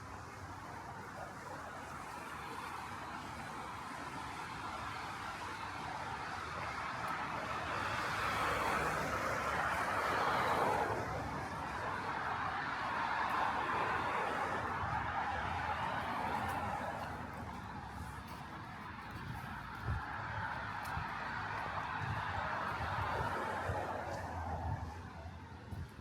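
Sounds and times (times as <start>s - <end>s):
cars passing on wet road: 0.0s - 26.0s.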